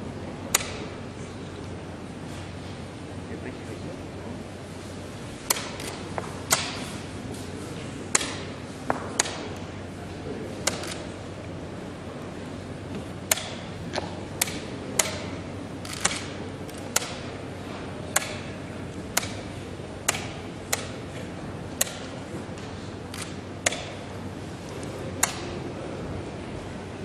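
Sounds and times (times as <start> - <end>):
room noise: 0.0 - 27.0.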